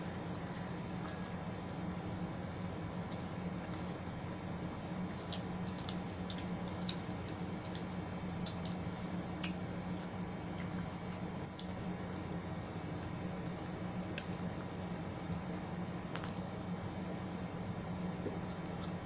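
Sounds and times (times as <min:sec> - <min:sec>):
wet squishy chewing: 0:00.3 - 0:01.5, 0:03.0 - 0:16.6, 0:18.0 - 0:19.0.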